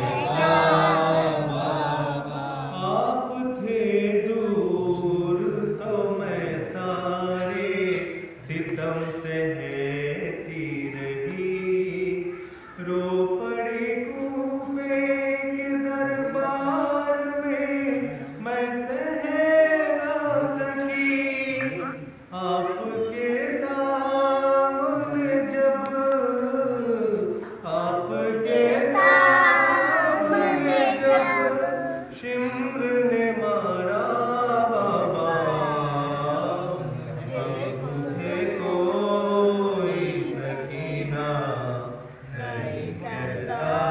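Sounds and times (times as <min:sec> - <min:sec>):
man singing a lament: 0:00.0 - 0:29.3, 0:30.9 - 0:43.9
chorus of voices: 0:00.0 - 0:43.9.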